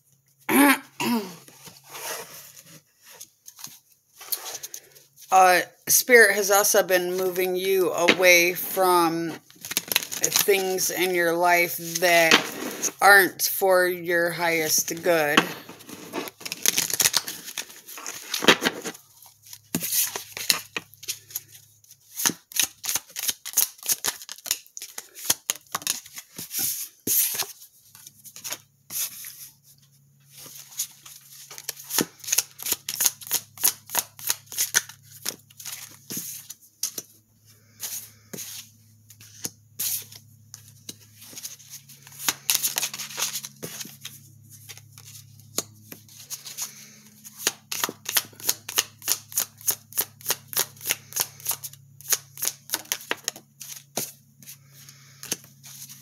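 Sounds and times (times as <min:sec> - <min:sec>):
cards being shuffled: 0:07.0 - 0:13.0, 0:14.5 - 0:29.5, 0:30.3 - 0:37.1, 0:37.8 - 0:56.0.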